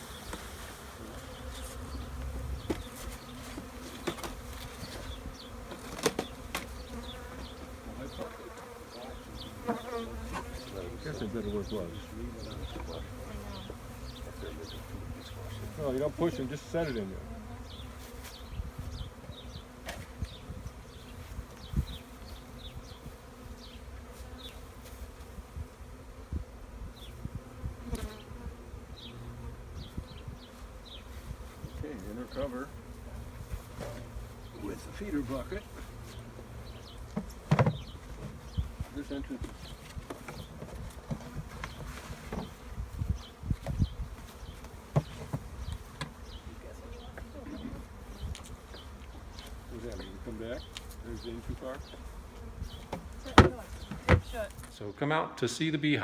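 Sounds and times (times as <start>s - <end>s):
bees buzzing: 0.0s - 54.6s.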